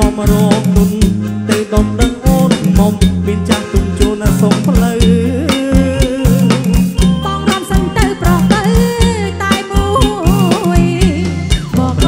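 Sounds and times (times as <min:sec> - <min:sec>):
bass guitar: 0:00.0 - 0:12.0
drum kit and congas: 0:00.0 - 0:12.0
electric guitar: 0:00.0 - 0:12.0
keyboard organ melody: 0:00.0 - 0:12.0.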